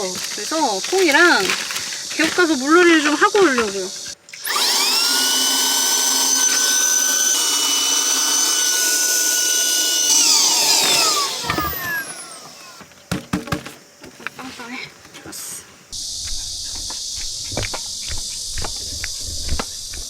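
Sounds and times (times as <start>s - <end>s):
electric air pump whining: 0.0s - 13.3s, 15.0s - 20.0s.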